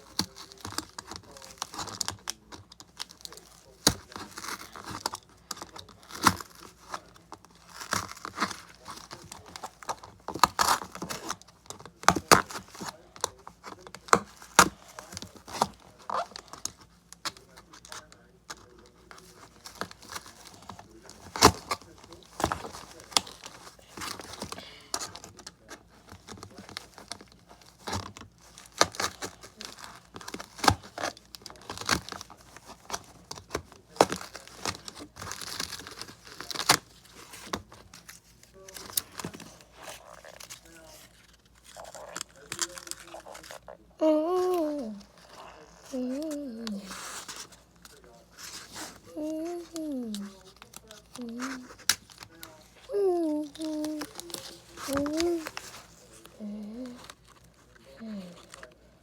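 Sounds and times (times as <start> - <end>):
cardboard and tape crinkling: 0.0 - 59.0.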